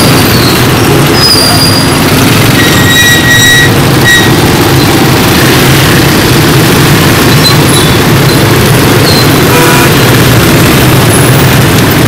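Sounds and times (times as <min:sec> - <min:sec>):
motorcycle engine running: 0:00.0 - 0:12.0
scooter and truck engines: 0:00.0 - 0:12.0.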